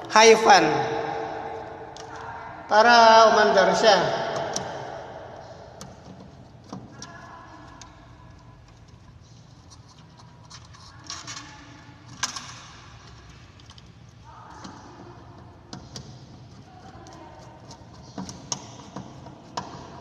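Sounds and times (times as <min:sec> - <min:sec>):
faint steady background noise: 0:00.0 - 0:20.0.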